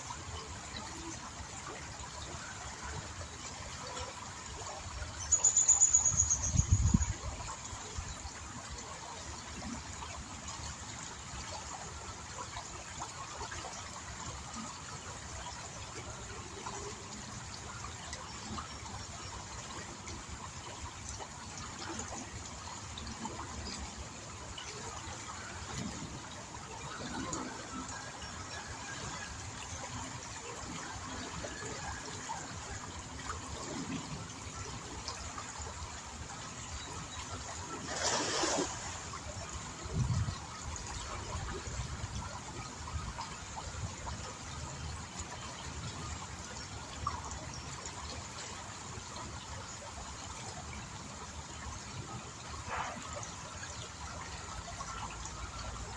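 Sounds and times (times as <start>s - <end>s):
river water flowing: 0.0s - 55.9s.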